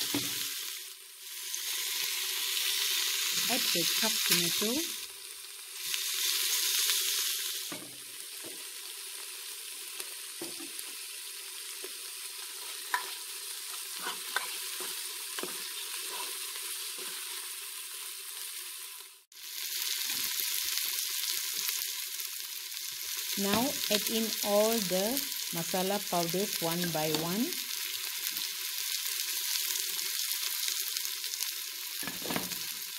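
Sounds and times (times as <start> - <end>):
vegetables sizzling in hot oil: 0.0 - 32.9.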